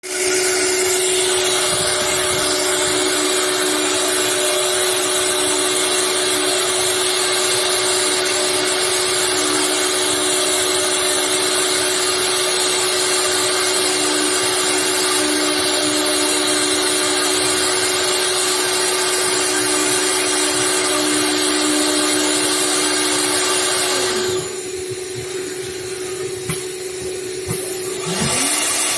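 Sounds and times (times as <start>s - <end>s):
cnc router spindle whine: 0.0s - 28.9s.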